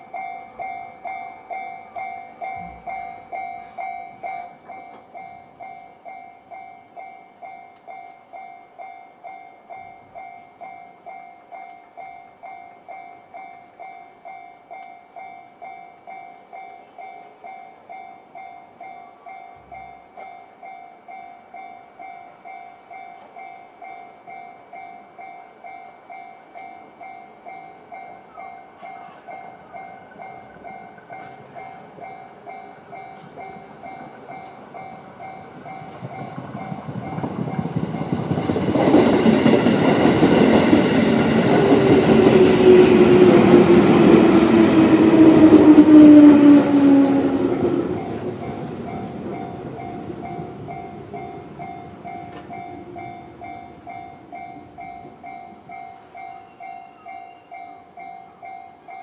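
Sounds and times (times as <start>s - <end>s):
electric train passing: 0.0s - 59.0s
falling whine of train: 0.0s - 59.0s
level crossing alarm dinging: 0.0s - 59.0s.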